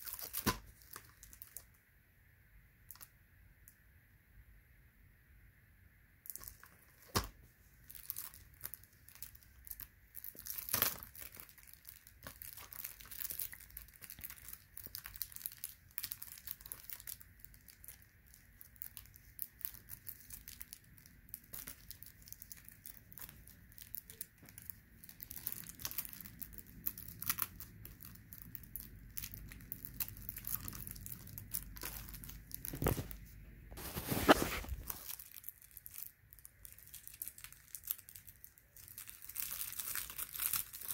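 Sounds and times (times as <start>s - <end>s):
plastic wrapping crinkling and tearing: 0.0s - 1.7s, 6.3s - 40.9s.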